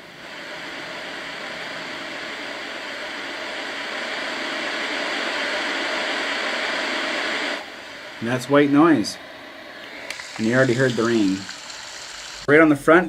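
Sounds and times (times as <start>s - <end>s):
white noise hiss from speaker: 0.0s - 13.0s.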